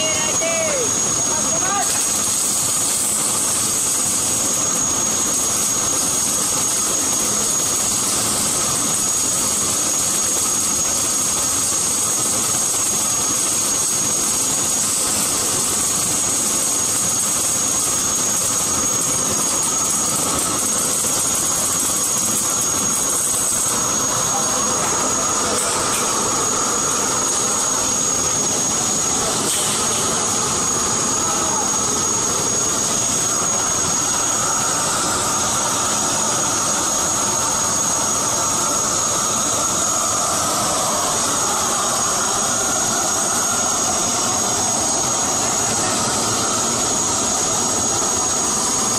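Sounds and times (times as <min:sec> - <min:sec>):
high-pitched whine: 0:00.0 - 0:48.9
industrial machinery noise: 0:00.0 - 0:48.9.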